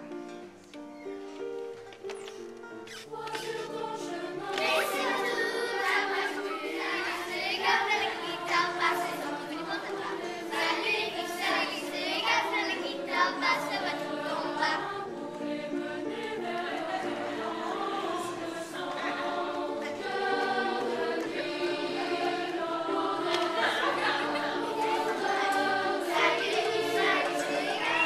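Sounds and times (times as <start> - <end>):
instrumental music: 0.0 - 28.0
children singing: 2.9 - 28.0.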